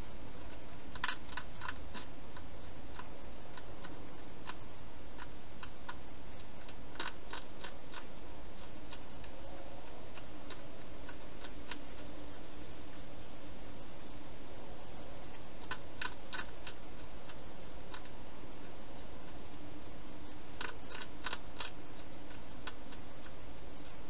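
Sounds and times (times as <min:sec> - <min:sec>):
steady hiss: 0:00.0 - 0:24.0
hedgehog chewing clicks: 0:00.5 - 0:09.4, 0:10.1 - 0:13.1, 0:15.3 - 0:19.4, 0:20.2 - 0:24.0.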